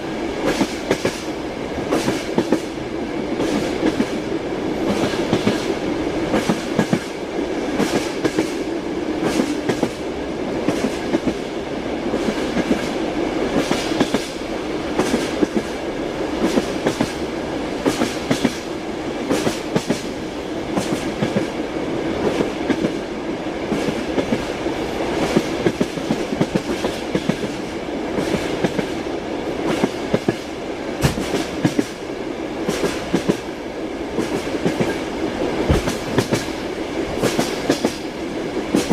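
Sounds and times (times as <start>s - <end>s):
train rumble: 0.0s - 38.9s.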